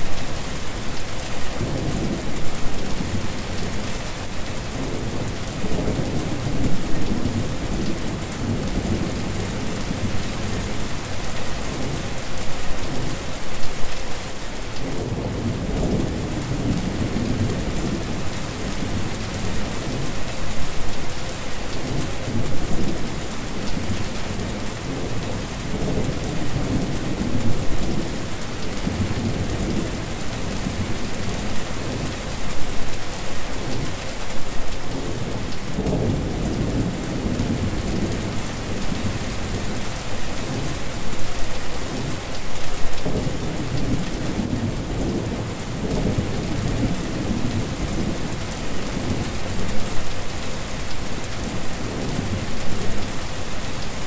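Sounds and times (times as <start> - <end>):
rain falling on wet surface: 0.0 - 54.0.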